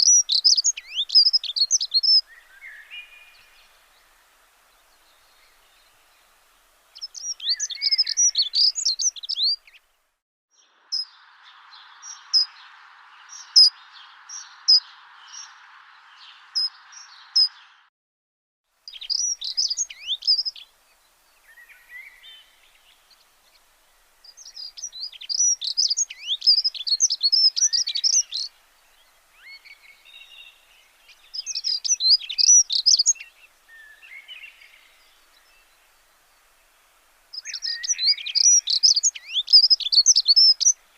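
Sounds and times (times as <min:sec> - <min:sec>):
soft hiss: 0:00.0 - 0:17.8, 0:18.7 - 0:40.9
songbirds chirping: 0:00.0 - 0:17.9, 0:18.8 - 0:40.9.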